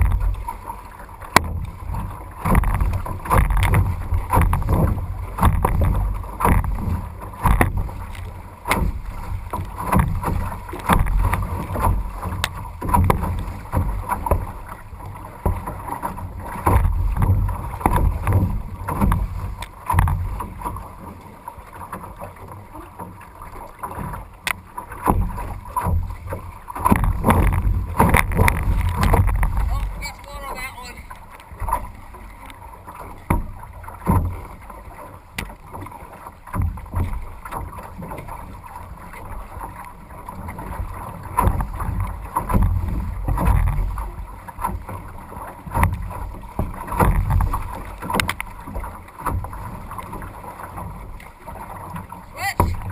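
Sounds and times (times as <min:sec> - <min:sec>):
waves splashing against canoe: 0:00.0 - 0:52.9.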